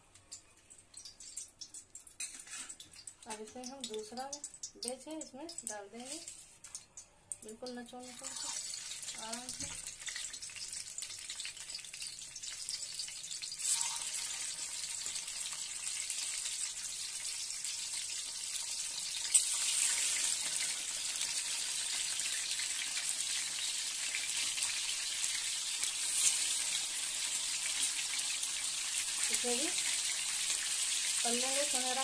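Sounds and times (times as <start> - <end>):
food sizzling in hot oil: 0.7 - 32.0.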